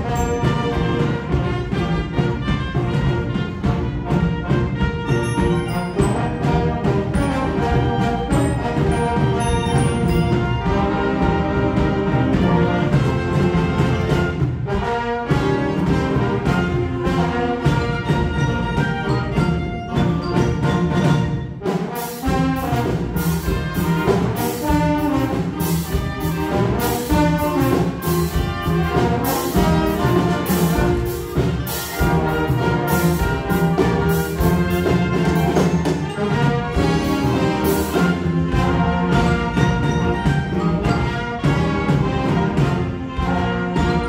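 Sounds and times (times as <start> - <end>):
brass ensemble playing: 0.0 - 44.0
percussion strikes: 0.0 - 44.0.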